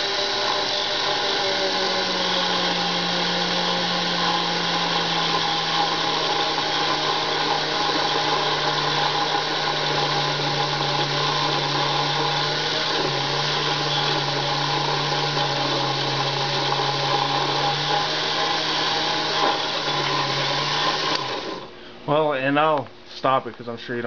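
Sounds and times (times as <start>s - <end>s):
lathe motor humming: 0.0s - 21.8s.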